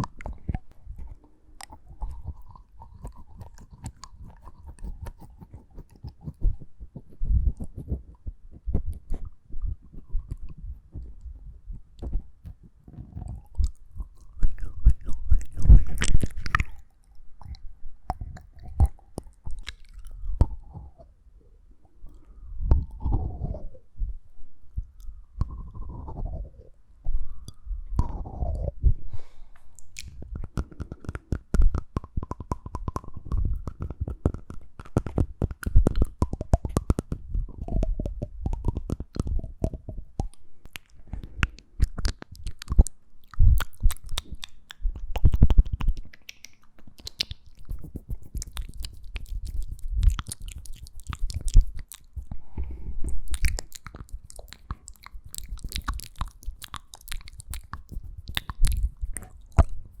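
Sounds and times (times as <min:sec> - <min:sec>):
wet tongue and lip clicks: 0:00.0 - 0:21.1, 0:22.1 - 0:23.6, 0:27.2 - 0:28.8, 0:29.6 - 1:00.0.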